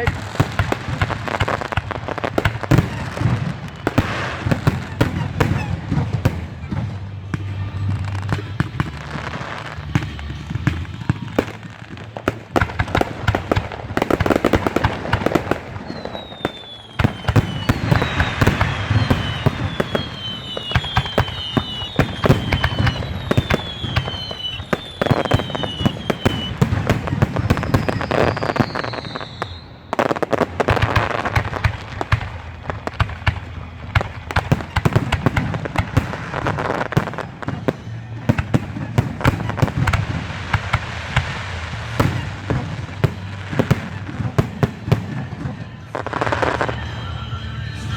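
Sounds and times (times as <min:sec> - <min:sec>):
falling firework whistles: 0:00.0 - 0:06.8, 0:12.6 - 0:47.9
fireworks bangs and crackles: 0:00.0 - 0:47.9.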